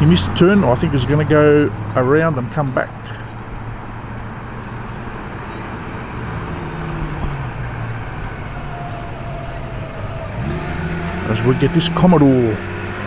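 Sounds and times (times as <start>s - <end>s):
car engines running at low speed: 0.0s - 13.0s.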